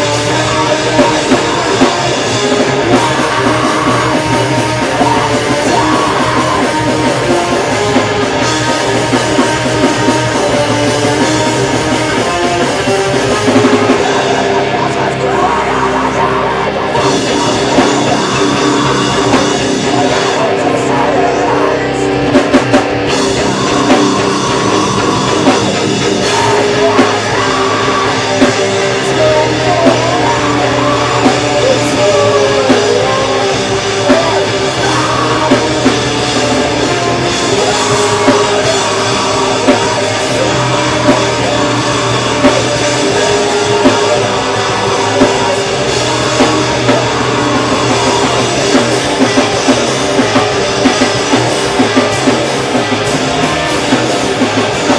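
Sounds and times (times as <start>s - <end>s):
distorted electric guitars: 0.0s - 54.9s
drum kit: 0.0s - 54.9s.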